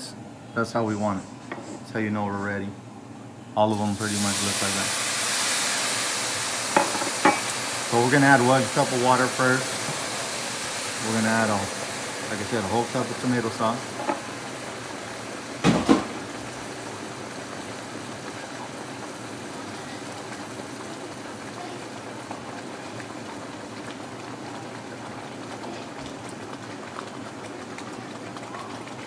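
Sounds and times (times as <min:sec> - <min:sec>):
sauce bubbling in a pan: 0:03.7 - 0:29.0.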